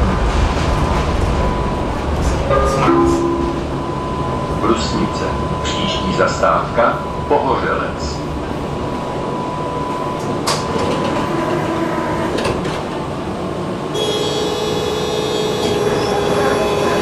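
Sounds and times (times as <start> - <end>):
tram rumble: 0.0 - 17.0.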